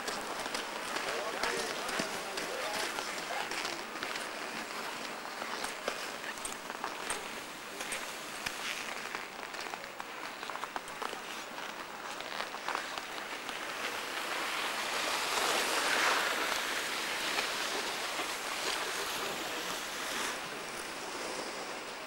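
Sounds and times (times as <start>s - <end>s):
skis sliding over snow: 0.0s - 22.0s.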